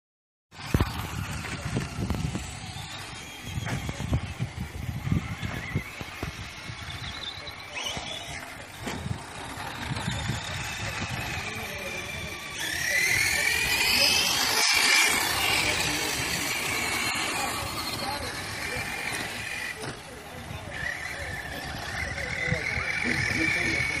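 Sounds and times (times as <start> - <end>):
remote control car motor whine: 0.6 - 24.0.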